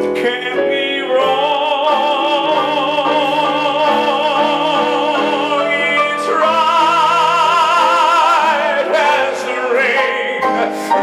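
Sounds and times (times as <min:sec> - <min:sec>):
man singing with vibrato: 0:00.0 - 0:11.0
song accompaniment: 0:00.0 - 0:11.0.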